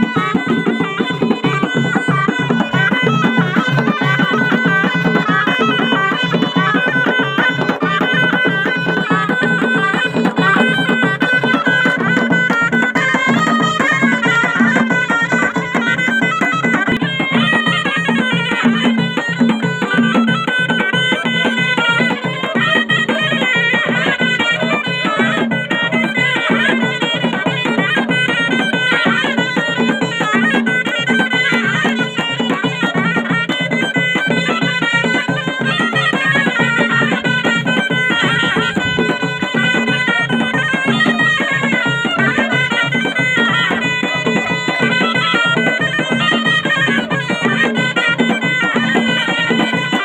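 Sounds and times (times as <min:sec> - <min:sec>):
shawm playing ornamented melody: 0:00.0 - 0:50.0.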